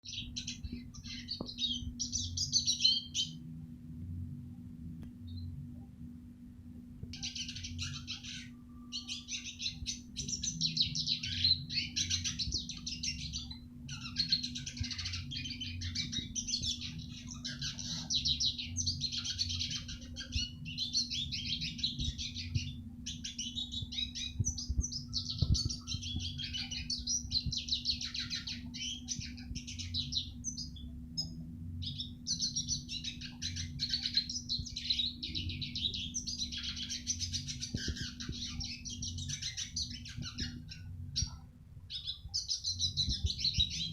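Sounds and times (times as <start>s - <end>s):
bird twittering song: 0.0s - 3.4s, 5.2s - 5.6s, 7.1s - 43.9s
steady low hum: 0.0s - 43.9s.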